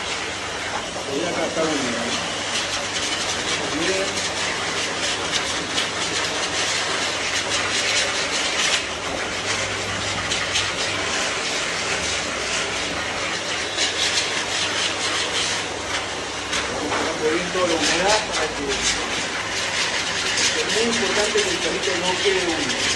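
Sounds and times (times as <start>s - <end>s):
pet dryer blowing air: 0.0s - 22.9s.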